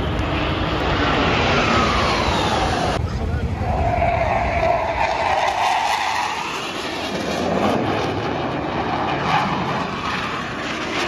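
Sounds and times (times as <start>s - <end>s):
jet flying past: 0.0s - 11.0s.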